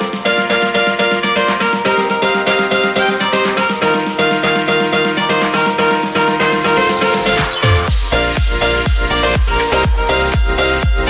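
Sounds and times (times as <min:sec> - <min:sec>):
plucked notes over steady beat: 0:00.2 - 0:11.0.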